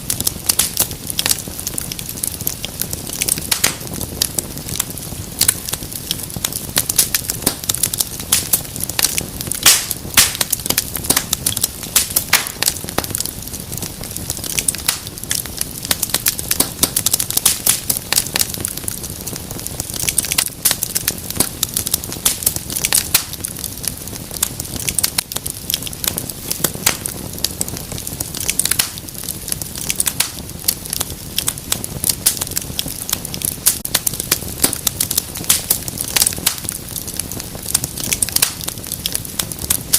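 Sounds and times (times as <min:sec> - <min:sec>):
low rumble of flame: 0:00.0 - 0:39.9
wood fire crackling: 0:00.0 - 0:39.9.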